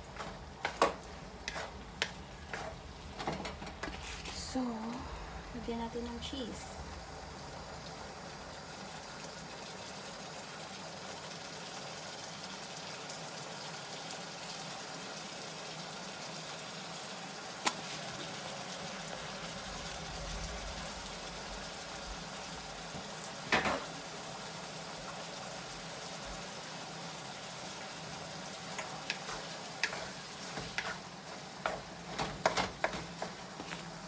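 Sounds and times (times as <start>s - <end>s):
meat and onions sizzling: 0.0s - 34.0s
pot of water boiling: 0.0s - 34.0s.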